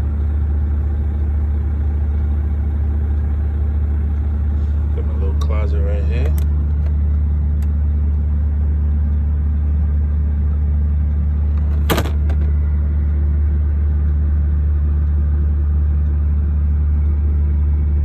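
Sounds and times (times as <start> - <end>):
diesel truck engine idling: 0.0 - 15.2.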